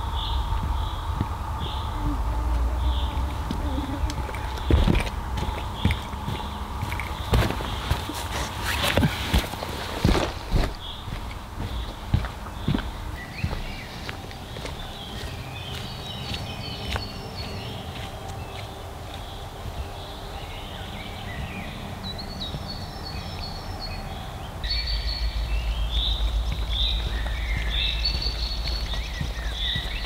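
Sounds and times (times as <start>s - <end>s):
songbirds singing: 0.0s - 30.0s
steady low rumble: 0.0s - 30.0s.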